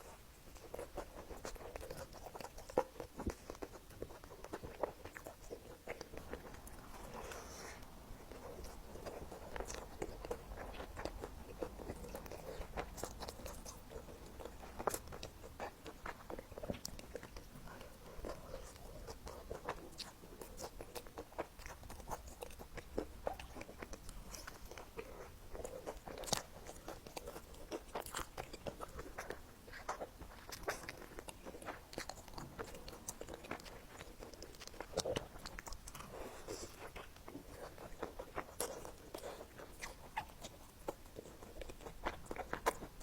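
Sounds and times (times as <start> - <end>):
person chewing: 0.0 - 43.0.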